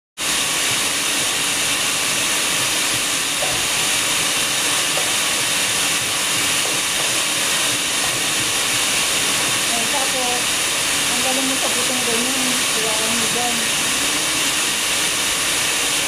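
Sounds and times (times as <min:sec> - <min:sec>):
steady hiss: 0:00.2 - 0:16.0.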